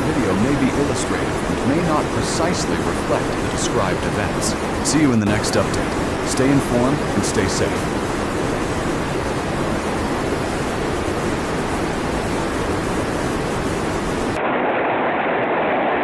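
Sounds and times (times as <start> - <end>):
heavy water rushing: 0.0 - 14.4
muffled rushing sound: 0.0 - 16.0.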